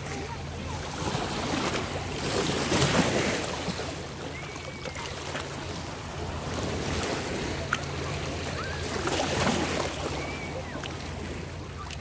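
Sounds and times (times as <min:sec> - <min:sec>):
low motor hum: 0:00.0 - 0:12.0
small waves lapping: 0:00.0 - 0:12.0.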